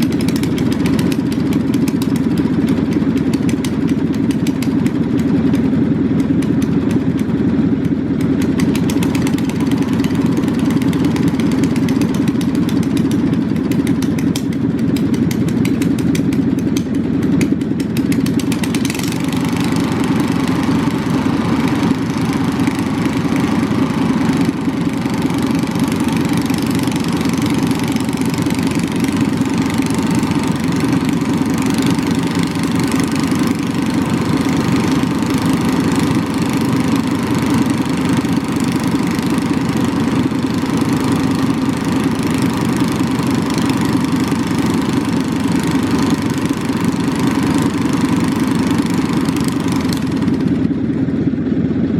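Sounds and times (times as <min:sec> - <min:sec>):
lawn mower engine idling: 0:00.0 - 0:51.9.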